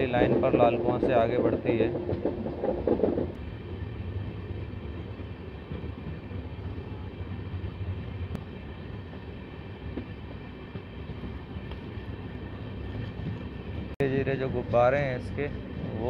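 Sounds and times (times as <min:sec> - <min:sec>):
train rumbling on the track: 0:00.0 - 0:16.0.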